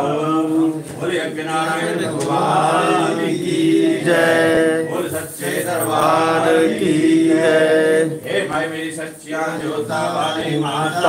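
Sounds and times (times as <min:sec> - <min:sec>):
mantras chanted in sing-song: 0:00.0 - 0:11.0.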